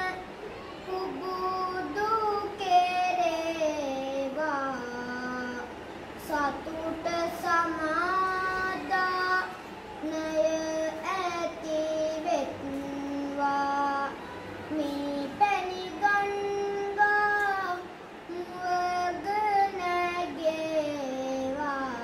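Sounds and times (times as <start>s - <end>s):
child singing devotional verse: 0.0s - 22.0s.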